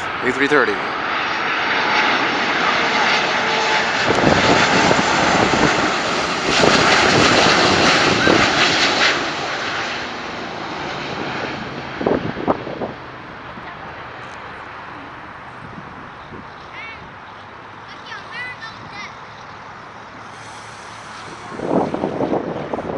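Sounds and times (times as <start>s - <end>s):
jet airliner passing: 0.0s - 22.9s.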